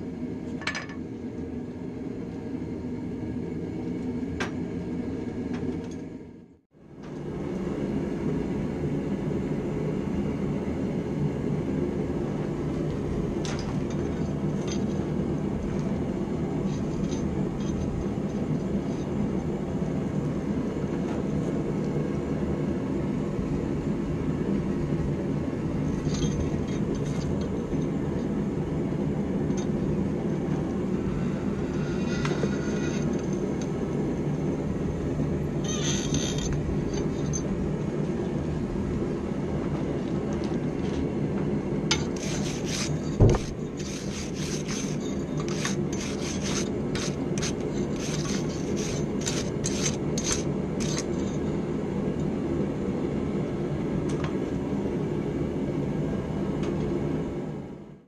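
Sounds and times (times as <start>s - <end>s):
gas forge roaring: 0.0s - 58.0s.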